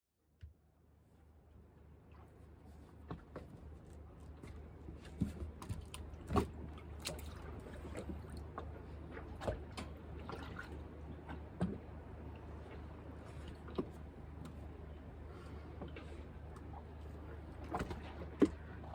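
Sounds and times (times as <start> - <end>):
steady low hum: 0.2 - 18.9.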